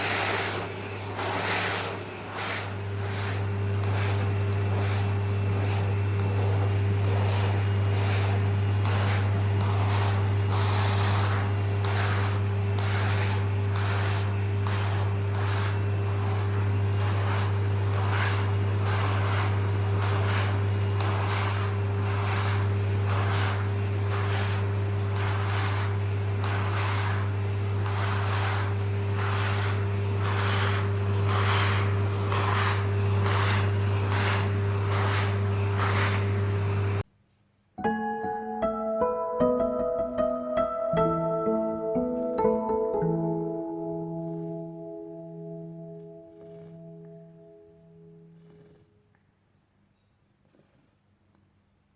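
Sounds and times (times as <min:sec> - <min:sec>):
brush swishing over fur: 0:00.0 - 0:37.1, 0:41.8 - 0:42.7, 0:43.4 - 0:47.4, 0:48.2 - 0:48.8
vacuum cleaner humming: 0:00.0 - 0:37.1, 0:37.8 - 0:49.2.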